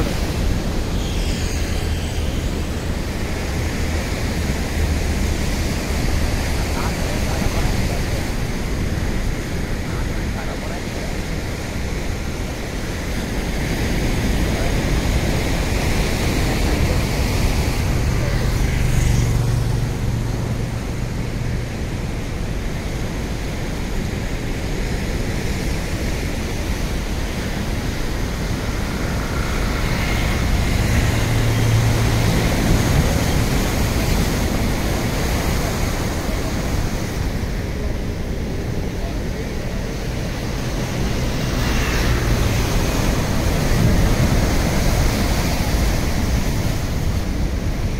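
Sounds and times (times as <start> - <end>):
heavy surf breaking on seawall: 0.0 - 47.9.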